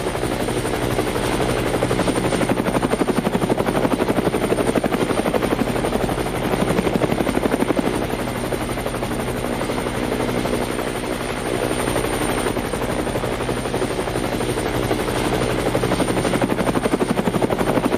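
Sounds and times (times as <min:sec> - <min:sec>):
helicopter rotor beating: 0:00.0 - 0:17.9.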